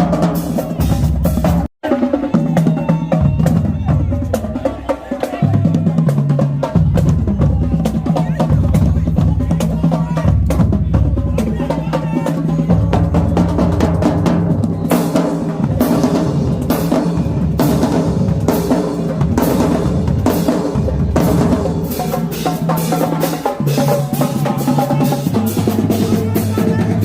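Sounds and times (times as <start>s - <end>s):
marching band playing: 0.0s - 27.0s
snare and bass drums: 0.0s - 27.0s.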